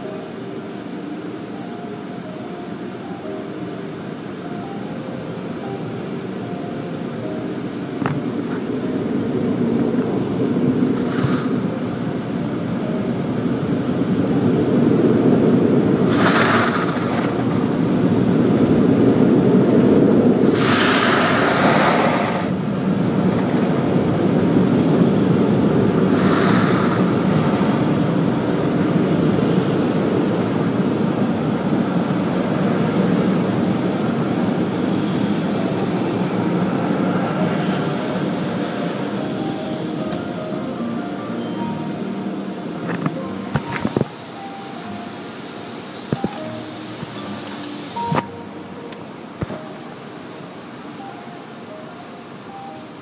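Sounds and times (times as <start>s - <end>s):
car wash machinery rumble: 0.0s - 53.0s
hissing water sprays: 7.2s - 52.8s.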